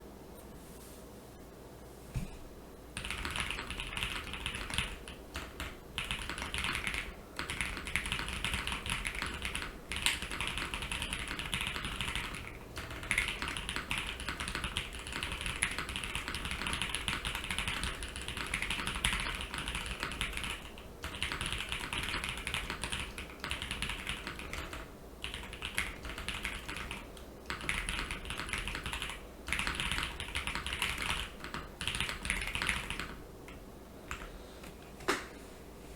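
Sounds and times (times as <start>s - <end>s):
mechanical keyboard typing: 3.0s - 33.2s.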